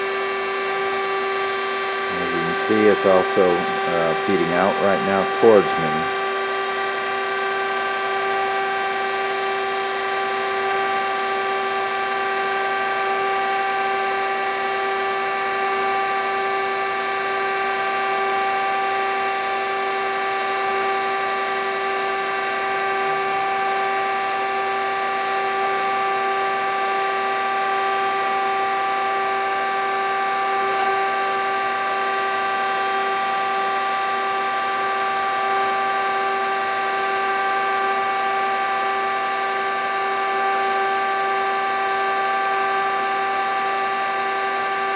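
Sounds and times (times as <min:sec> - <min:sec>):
surface grinder humming and whining: 0:00.0 - 0:44.9.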